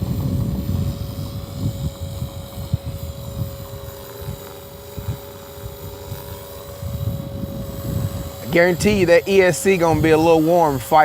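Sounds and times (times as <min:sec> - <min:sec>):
lower tone: 0:00.0 - 0:11.0
rc helicopter rotor whine: 0:00.0 - 0:11.0
wind buffeting microphone: 0:00.0 - 0:11.0.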